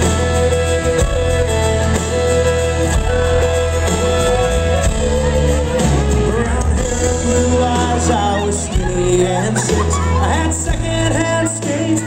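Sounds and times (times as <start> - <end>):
country band playing: 0.0 - 12.0
fiddle melody: 0.0 - 12.0.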